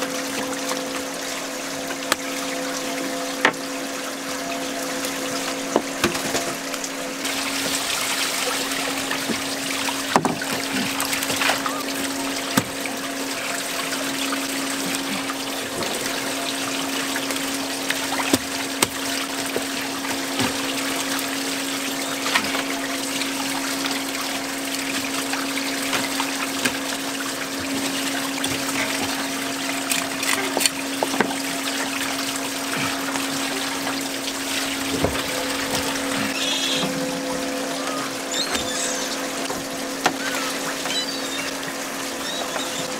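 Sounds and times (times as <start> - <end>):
mechanical hum: 0.0 - 42.9
water running and trickling: 0.0 - 42.9.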